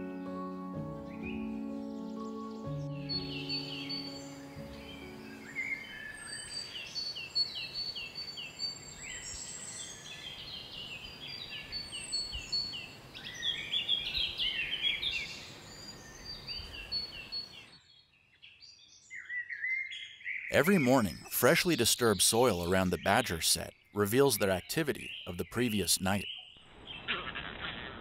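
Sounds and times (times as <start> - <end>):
songbirds chirping: 0.0 - 27.1.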